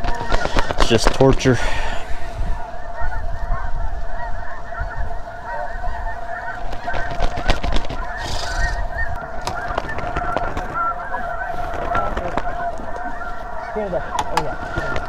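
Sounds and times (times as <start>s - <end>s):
flock of geese honking: 0.0s - 15.0s.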